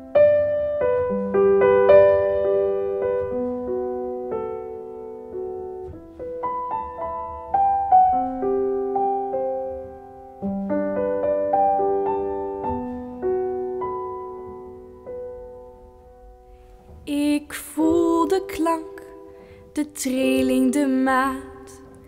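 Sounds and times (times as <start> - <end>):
solo piano playing: 0.0 - 22.0.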